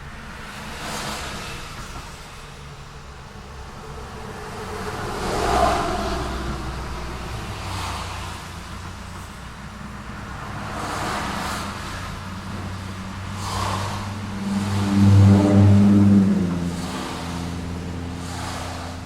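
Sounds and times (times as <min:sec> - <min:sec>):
vehicles passing: 0:00.0 - 0:19.0
low engine hum: 0:03.0 - 0:19.0.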